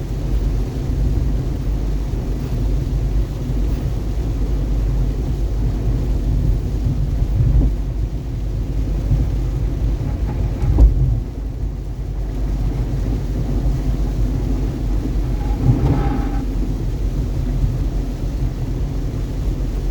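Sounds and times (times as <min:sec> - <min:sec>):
car road rumble: 0:00.0 - 0:19.9
gusty wind: 0:00.0 - 0:19.9
heavy rain: 0:00.0 - 0:19.9.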